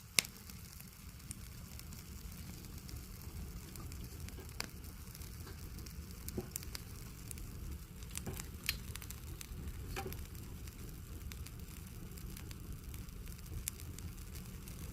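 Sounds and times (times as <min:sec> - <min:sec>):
campfire crackling and popping: 0:00.0 - 0:14.9
low rumble of flames: 0:00.0 - 0:14.9.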